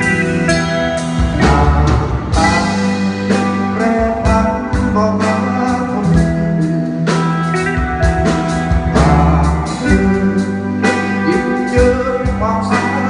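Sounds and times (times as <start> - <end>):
guitar: 0.0 - 13.0
steady bass line: 0.0 - 13.0.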